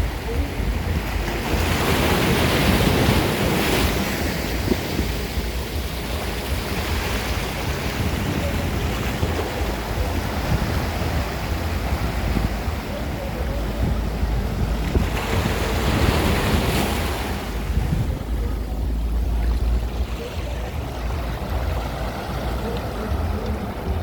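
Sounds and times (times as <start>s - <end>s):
ocean surf washing on shore: 0.0s - 24.0s
wind buffeting microphone: 0.0s - 24.0s.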